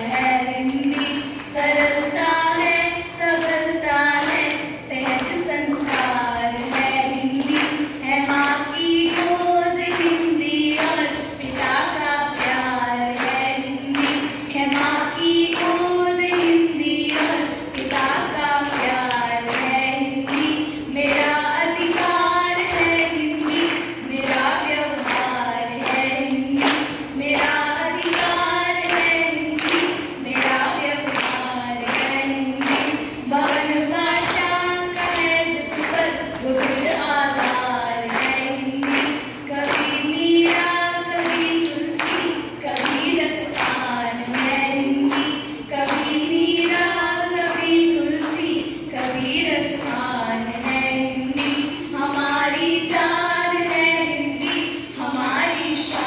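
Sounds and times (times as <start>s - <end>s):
girls singing into microphones: 0.0s - 56.0s
sharp hand claps: 0.0s - 56.0s.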